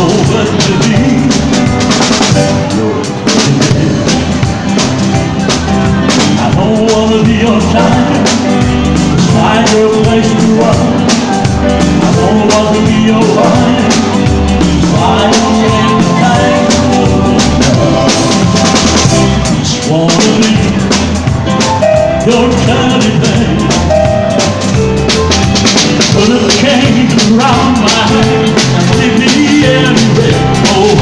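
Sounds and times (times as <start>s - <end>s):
drum kit playing: 0.0s - 31.0s
live band music: 0.0s - 31.0s.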